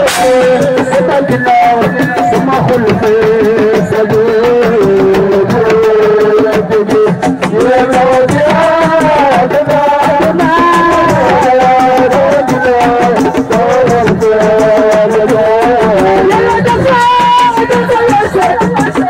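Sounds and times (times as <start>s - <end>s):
fast drumming and percussion: 0.0s - 19.0s.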